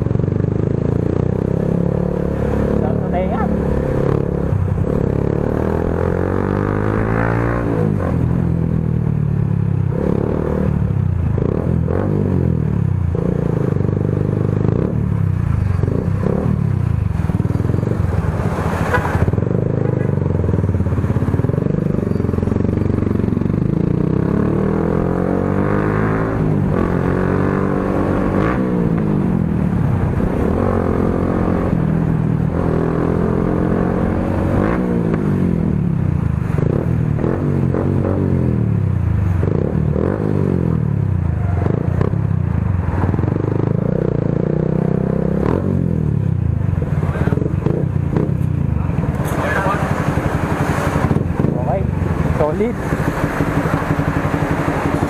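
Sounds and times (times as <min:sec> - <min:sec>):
loud motorcycle engine revving: 0:00.0 - 0:55.0.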